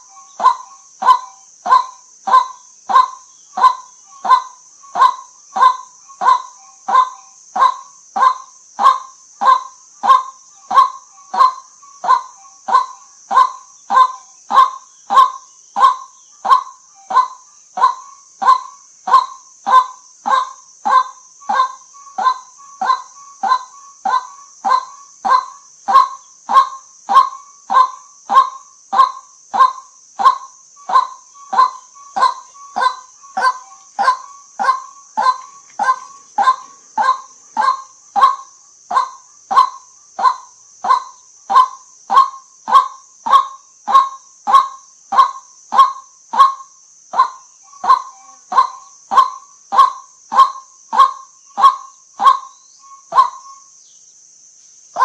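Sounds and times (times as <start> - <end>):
waterhen honking call: 0.0 - 46.6, 47.2 - 53.4.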